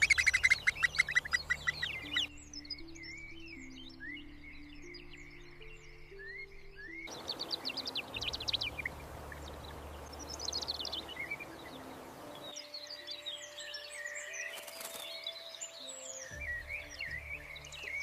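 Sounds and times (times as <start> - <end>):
small birds chirping: 0.0 - 18.0
soft background music: 0.0 - 18.0
steady outdoor noise: 0.0 - 18.0.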